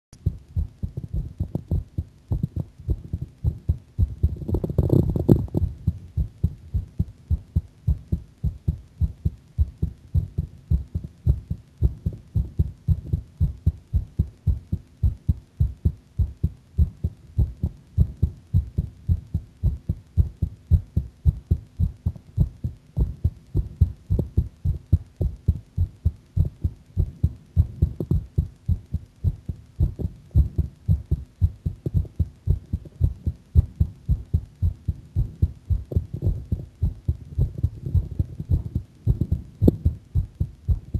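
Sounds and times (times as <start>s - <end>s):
heartbeat thuds: 0.2s - 40.9s.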